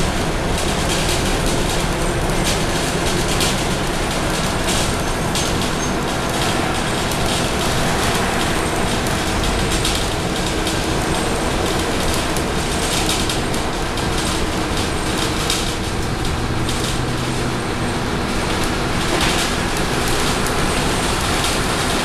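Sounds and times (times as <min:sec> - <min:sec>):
bus diesel engine running: 0:00.0 - 0:22.0
road and tyre noise: 0:00.0 - 0:22.0
small rattles of bus body: 0:00.0 - 0:22.0.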